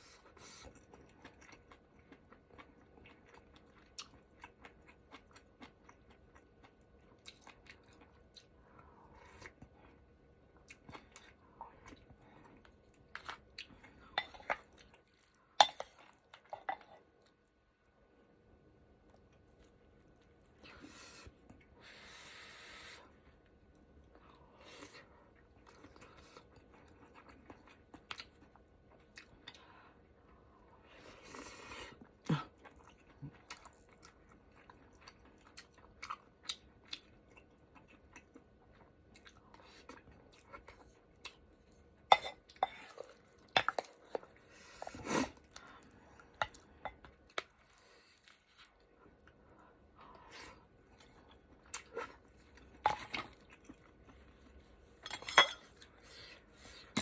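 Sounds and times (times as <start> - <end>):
person chewing: 0.1 - 17.3, 23.7 - 29.8, 31.2 - 57.0.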